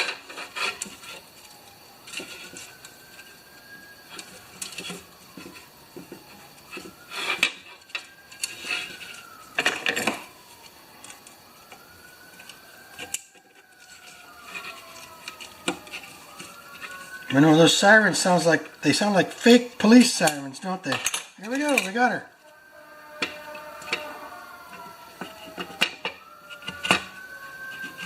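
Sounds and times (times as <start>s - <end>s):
distant police siren wailing: 0.0s - 28.0s.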